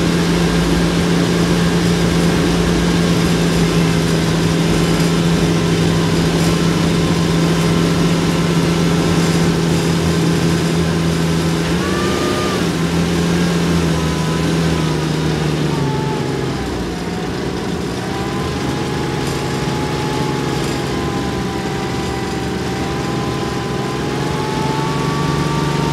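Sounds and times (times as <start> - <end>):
armoured vehicle engine running: 0.0 - 25.9
whine wandering in pitch: 0.0 - 25.9.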